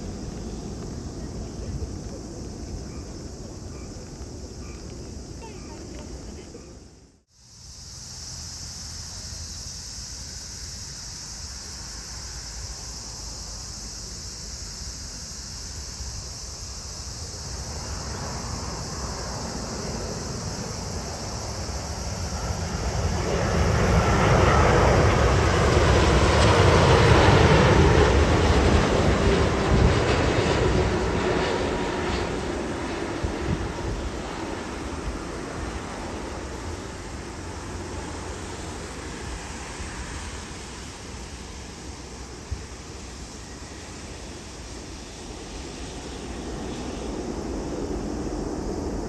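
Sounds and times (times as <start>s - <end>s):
jet airliner engine rumble: 0.0s - 7.3s, 11.2s - 49.0s
steady high hiss: 0.0s - 49.0s.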